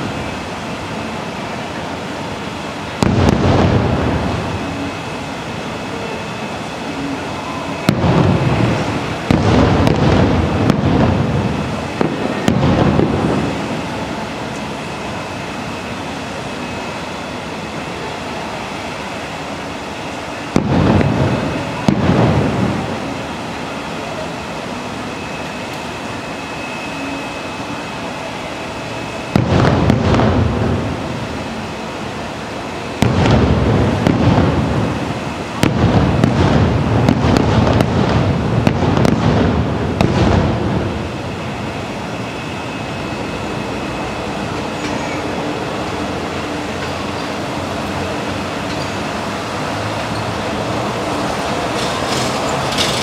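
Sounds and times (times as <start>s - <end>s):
fireworks booming and crackling: 0.0s - 53.0s
steady background noise: 0.0s - 53.0s.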